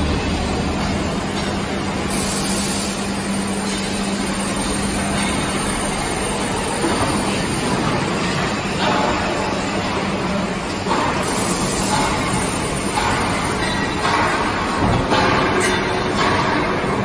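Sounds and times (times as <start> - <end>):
plate bending machine humming: 0.0 - 17.0.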